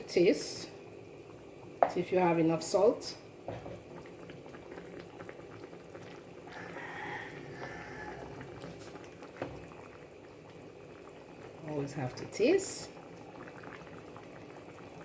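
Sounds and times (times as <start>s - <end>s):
sauce simmering in a pot: 0.0s - 15.0s.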